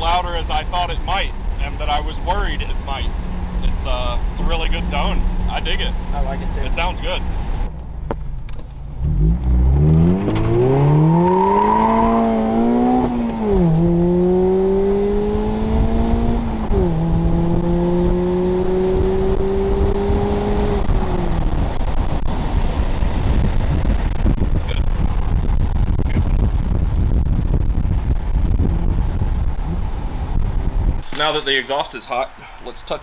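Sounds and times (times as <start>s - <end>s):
road rumble: 0.0s - 33.0s
car engine accelerating: 1.2s - 31.0s.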